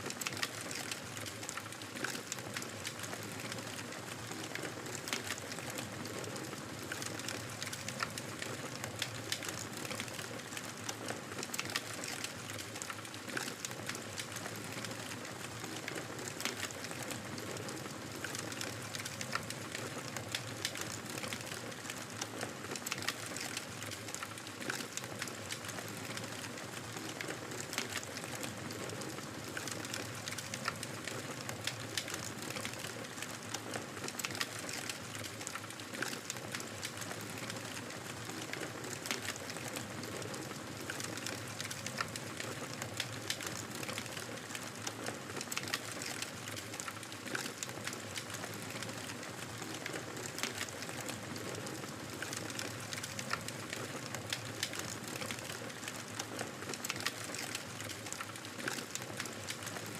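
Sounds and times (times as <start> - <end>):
fire crackling and popping: 0.1 - 59.9.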